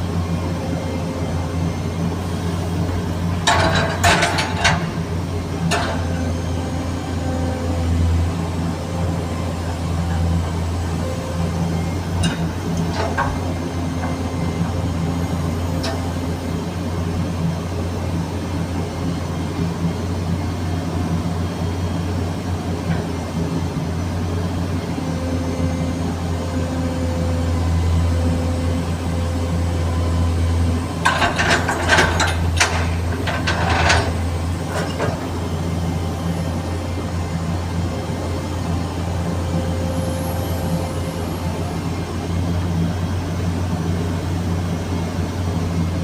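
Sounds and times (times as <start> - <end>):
excavator diesel engine drone: 0.0 - 46.0.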